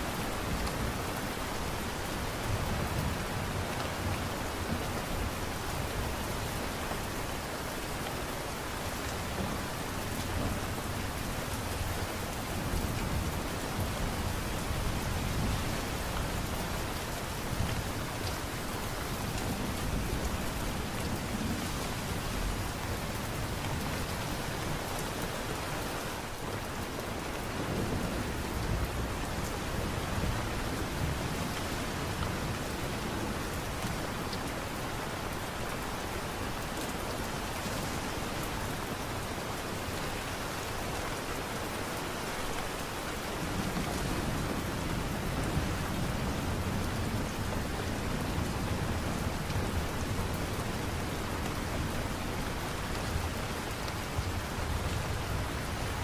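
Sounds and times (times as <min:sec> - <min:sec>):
light rain hiss: 0:00.0 - 0:56.0.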